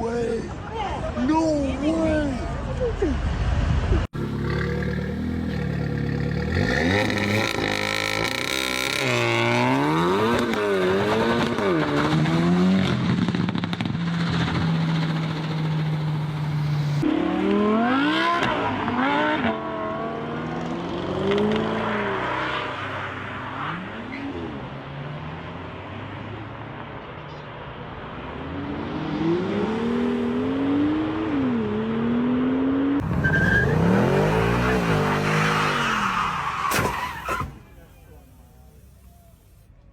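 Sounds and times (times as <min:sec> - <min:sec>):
car engines revving: 0:00.5 - 0:39.9.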